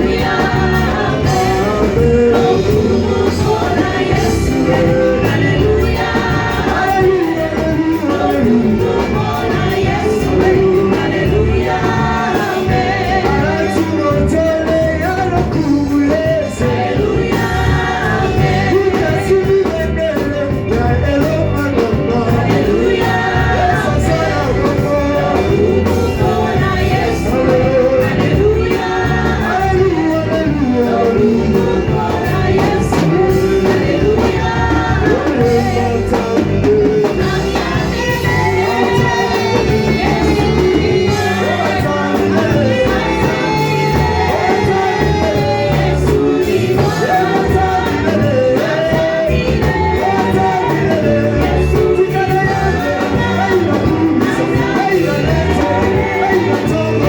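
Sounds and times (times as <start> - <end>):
instrumental accompaniment with beat: 0.0 - 57.0
people singing worship song: 0.0 - 57.0.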